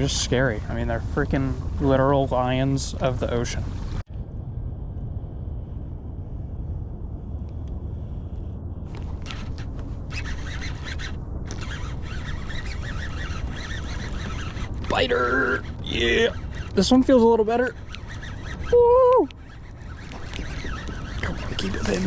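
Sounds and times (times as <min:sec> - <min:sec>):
choppy crackling noise: 0:00.0 - 0:22.0
low wind rumble on microphone: 0:00.0 - 0:22.0.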